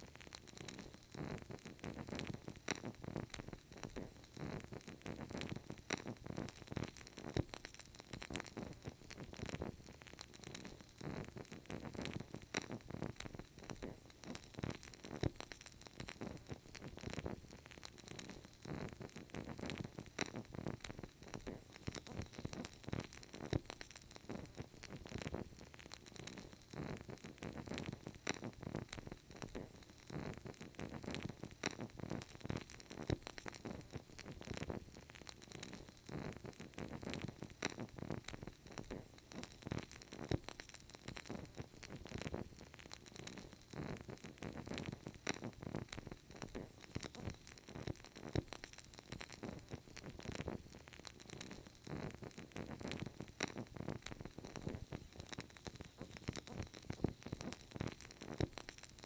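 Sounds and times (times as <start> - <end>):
candle crackling: 0.0 - 59.0.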